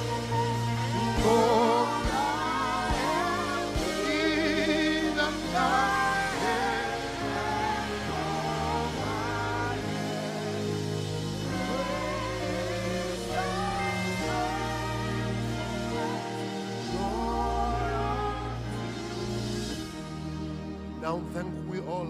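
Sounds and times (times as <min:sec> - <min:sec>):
keyboard and bass chords: 0:00.0 - 0:22.0
person singing with vibrato: 0:00.0 - 0:22.0.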